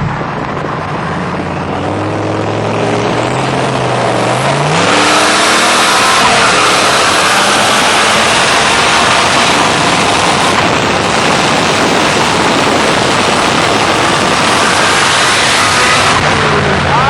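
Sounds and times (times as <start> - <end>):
car driving at high speed: 0.0 - 17.0.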